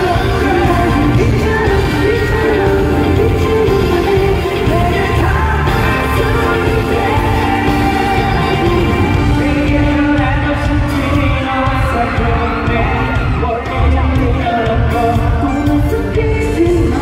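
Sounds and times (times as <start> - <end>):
loud backing track: 0.0 - 17.0
men singing pop song: 0.0 - 17.0.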